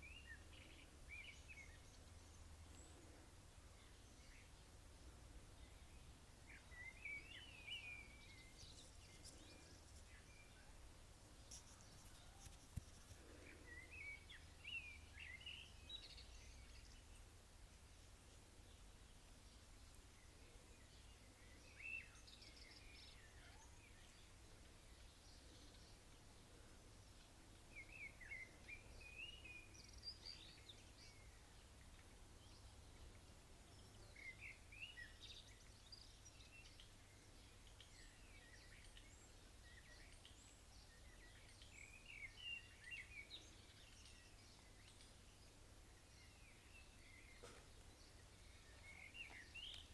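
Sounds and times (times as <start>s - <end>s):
faint birds chirping: 0.0s - 49.9s.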